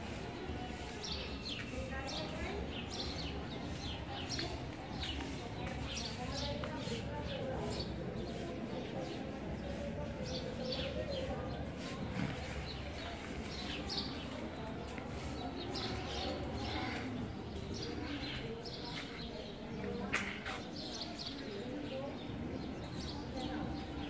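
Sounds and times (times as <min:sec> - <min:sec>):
small birds chirping: 0:00.4 - 0:24.0.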